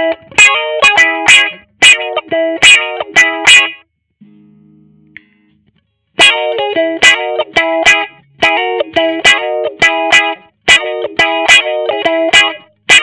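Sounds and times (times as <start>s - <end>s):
electric guitar playing chords: 0.0s - 5.6s, 6.2s - 13.0s
faint amp hum: 0.0s - 12.0s.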